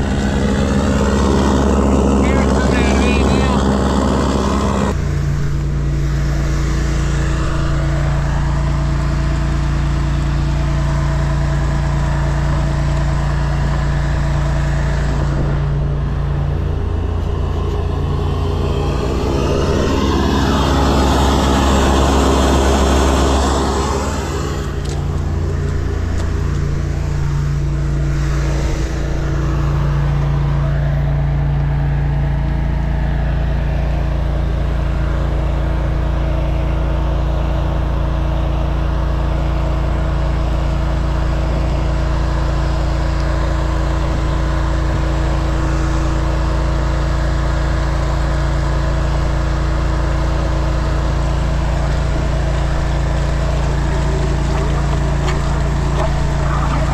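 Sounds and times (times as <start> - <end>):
engine running under load: 0.0 - 56.9.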